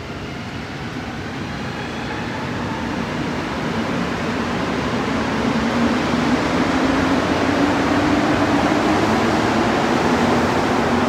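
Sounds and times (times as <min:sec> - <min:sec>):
metro train rushing past: 0:00.0 - 0:11.0.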